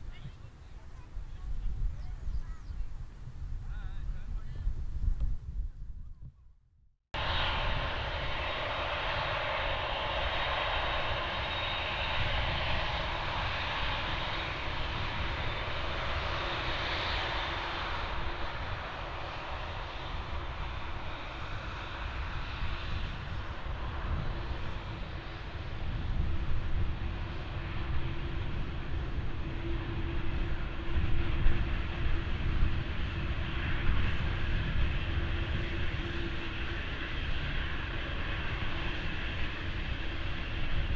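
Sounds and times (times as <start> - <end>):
jet airliner passing: 7.2 - 40.9.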